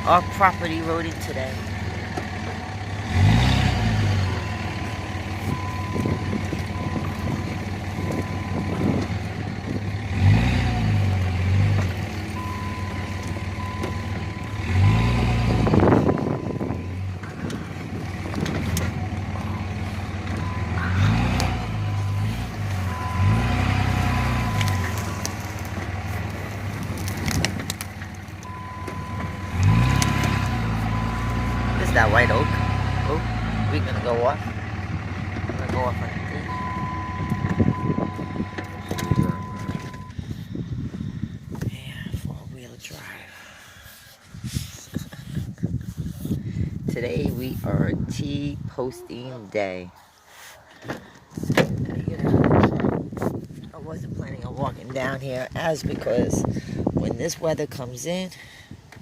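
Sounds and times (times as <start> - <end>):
vehicle engine revving on rough ground: 0.0 - 59.0.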